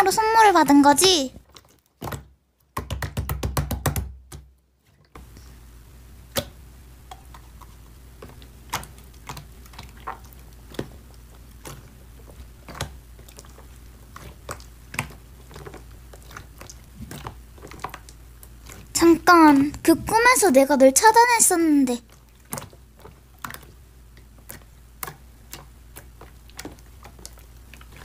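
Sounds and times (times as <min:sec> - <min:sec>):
steady low hum: 0:05.2 - 0:28.0.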